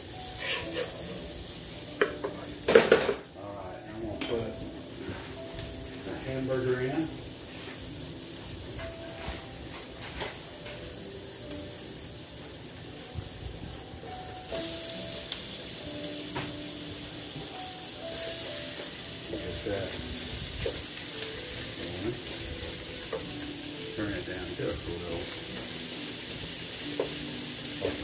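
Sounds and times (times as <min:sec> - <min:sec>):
onion and garlic sizzling in pan: 0:00.0 - 0:28.0.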